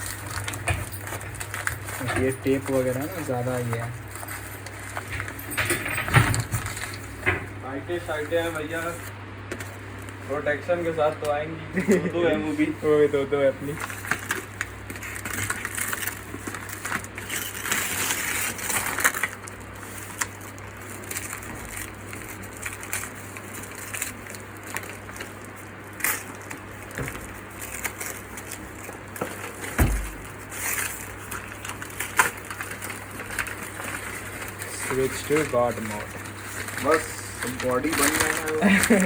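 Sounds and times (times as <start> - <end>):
plastic and cardboard rustling: 0.0 - 39.0.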